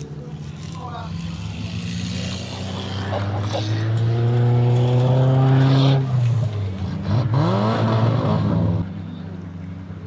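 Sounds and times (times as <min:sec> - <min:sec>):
stock car engines at full throttle: 0:00.0 - 0:10.0.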